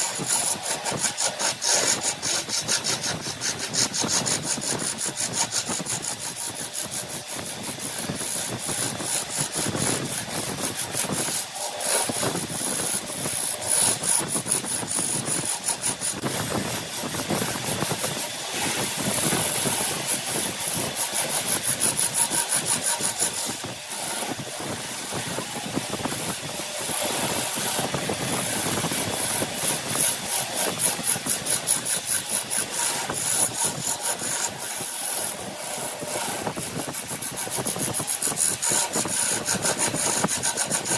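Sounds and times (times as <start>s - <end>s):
wood lathe scraping rasp: 0.0s - 40.9s.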